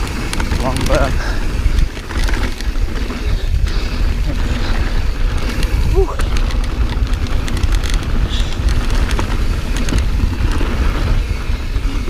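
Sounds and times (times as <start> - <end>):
bike clicks and rattles: 0.0 - 12.0
bike tyre noise on dirt: 0.0 - 12.0
wind buffeting microphone: 0.0 - 12.0.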